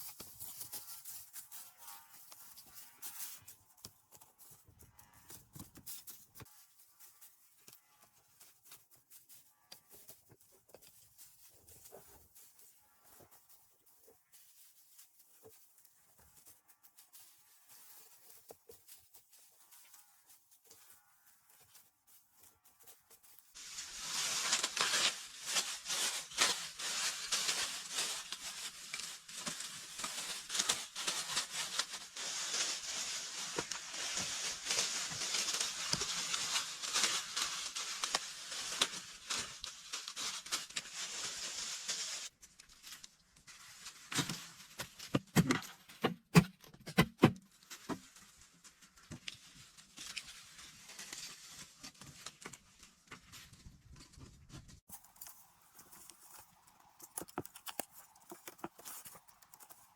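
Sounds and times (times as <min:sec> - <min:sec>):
rustling and crackling: 0:00.0 - 0:46.7, 0:47.4 - 0:59.9.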